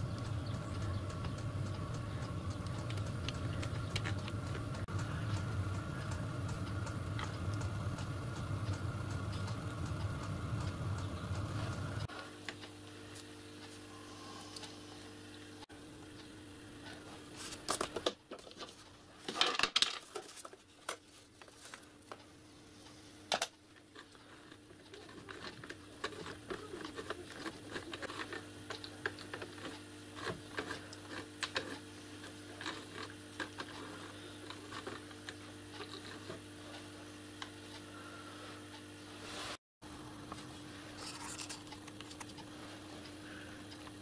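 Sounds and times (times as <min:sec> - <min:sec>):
steady low hum: 0:00.0 - 0:18.0, 0:21.5 - 0:44.0.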